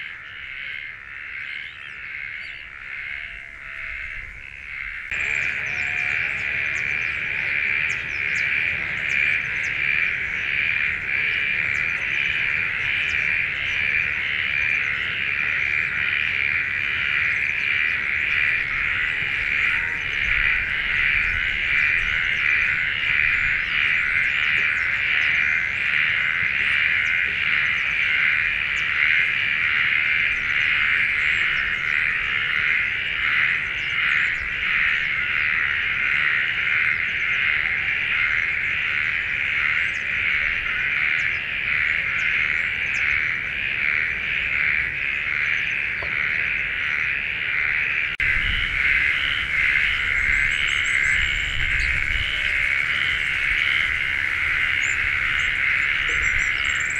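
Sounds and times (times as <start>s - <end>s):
insects calling: 0.0s - 56.9s.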